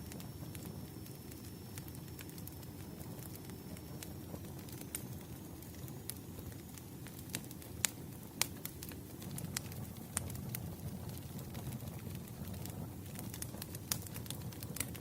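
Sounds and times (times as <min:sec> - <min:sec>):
low rumble of room noise: 0:00.0 - 0:15.0
wood fire crackling and popping: 0:00.0 - 0:15.0.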